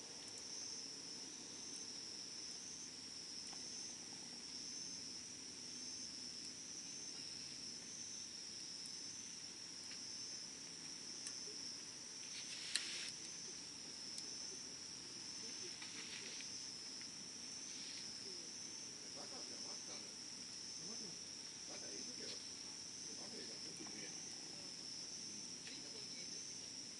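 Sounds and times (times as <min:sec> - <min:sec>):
campfire crackling: 0:00.0 - 0:26.9
high-pitched insect trill: 0:00.0 - 0:26.9.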